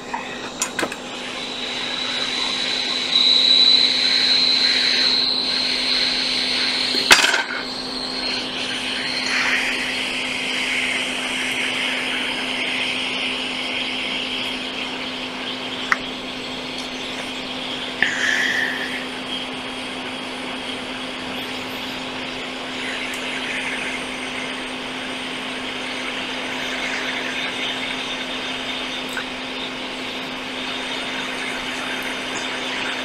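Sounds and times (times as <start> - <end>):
hot-air station blowing: 0.0 - 33.0.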